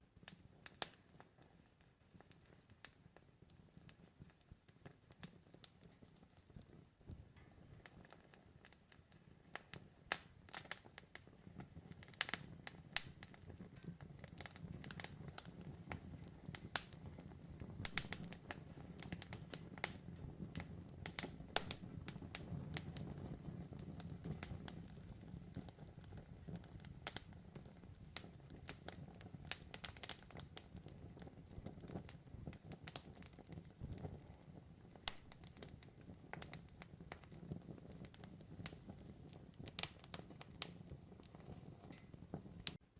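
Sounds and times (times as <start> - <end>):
fire popping and snapping: 0.0 - 42.9
low rumble of burning: 0.0 - 42.9
wood fire crackling: 0.0 - 42.9.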